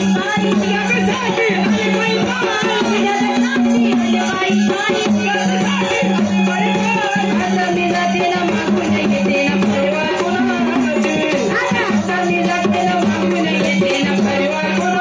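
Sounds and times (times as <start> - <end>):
rattling percussion: 0.0 - 15.0.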